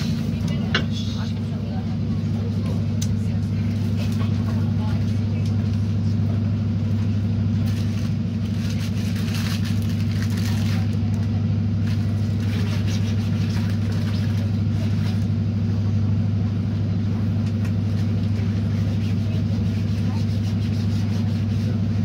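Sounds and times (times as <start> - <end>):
low diesel engine drone: 0.0 - 22.0.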